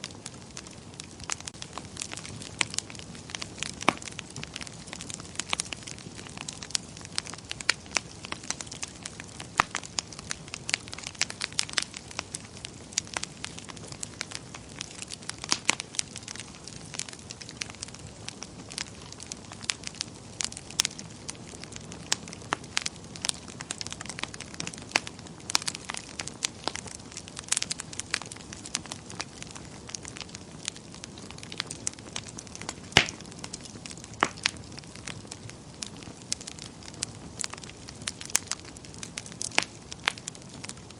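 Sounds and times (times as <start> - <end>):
soft hiss of flames: 0.0 - 40.9
wood fire crackling: 0.0 - 40.9.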